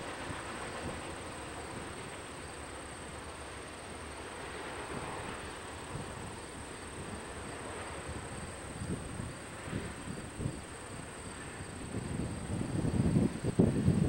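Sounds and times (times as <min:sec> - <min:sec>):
distant freight train rumble: 0:00.0 - 0:14.0.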